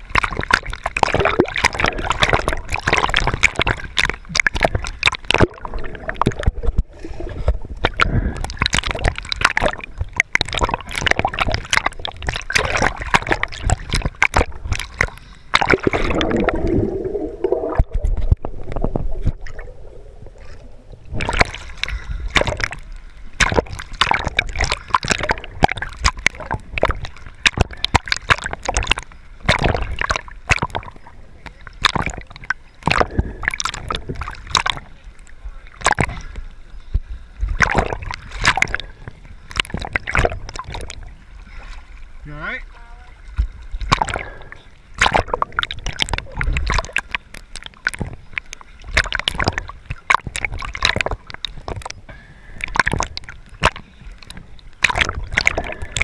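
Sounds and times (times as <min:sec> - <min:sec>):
gurgling bubbles: 0:00.0 - 0:35.0, 0:35.6 - 0:36.4, 0:37.4 - 0:41.6, 0:43.5 - 0:56.0
water splashing and sloshing: 0:00.0 - 0:56.0.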